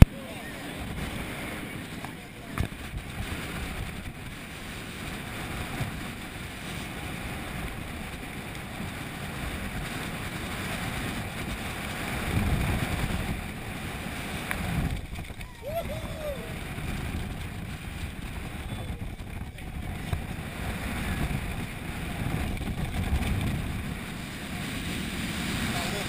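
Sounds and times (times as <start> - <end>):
boat rumble: 0.0 - 26.0
wind rushing over microphone: 0.0 - 26.0.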